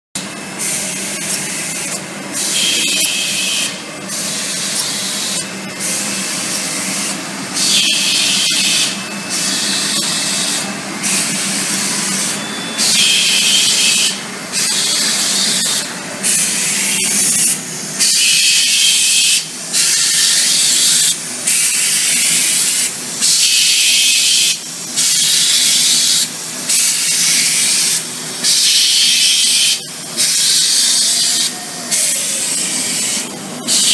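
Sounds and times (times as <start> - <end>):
machine mechanical hum: 0.2 - 33.9.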